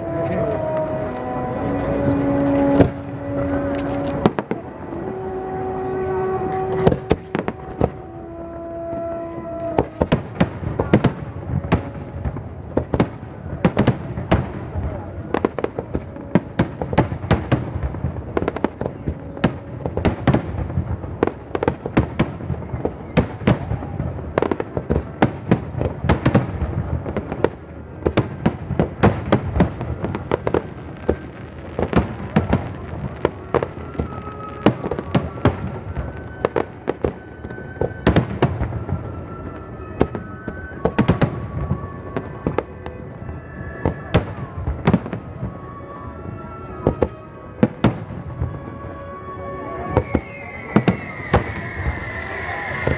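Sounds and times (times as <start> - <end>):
fireworks bangs and crackling: 0.0 - 46.1, 46.8 - 49.0, 49.8 - 52.9.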